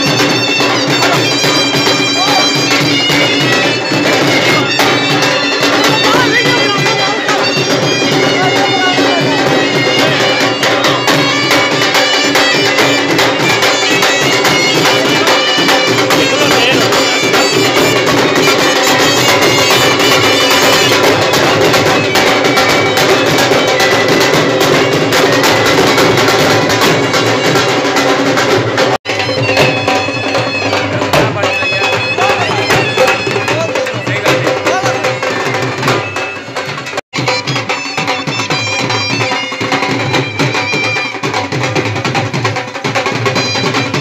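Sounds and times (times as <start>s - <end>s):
drums beating: 0.0s - 44.0s
reed wind instrument melody: 0.0s - 44.0s.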